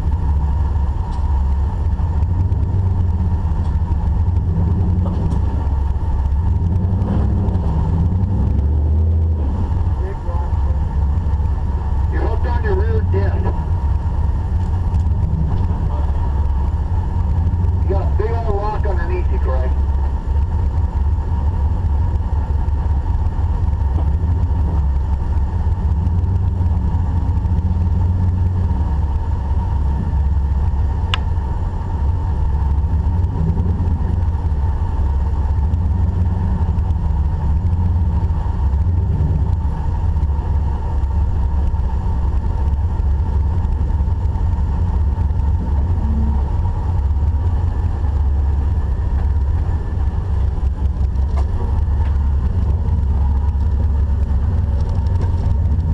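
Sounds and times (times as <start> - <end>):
car engine running at low revs: 0.0 - 55.9.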